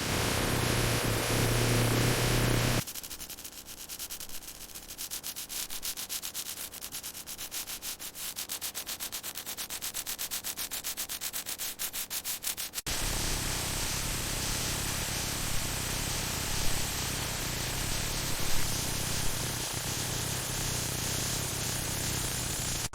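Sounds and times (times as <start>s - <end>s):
rhythmic sanding strokes: 0.0s - 22.9s.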